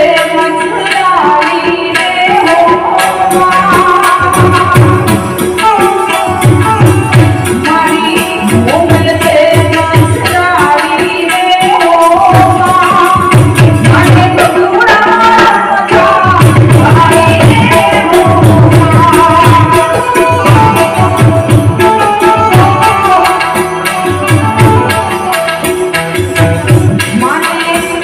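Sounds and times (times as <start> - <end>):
woman singing: 0.0 - 25.2, 27.0 - 28.0
harmonium chords: 0.0 - 28.0
tabla strokes: 0.0 - 28.0.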